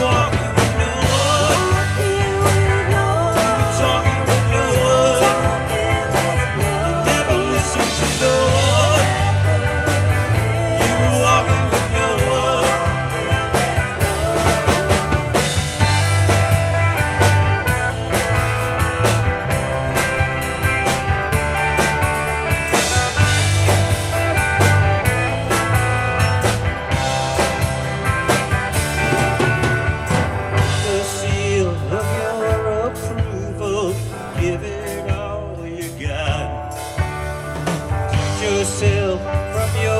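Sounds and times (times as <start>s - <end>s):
bass line: 0.0s - 39.9s
drum kit beat: 0.0s - 39.9s
guitars and keyboards melody: 0.0s - 39.9s.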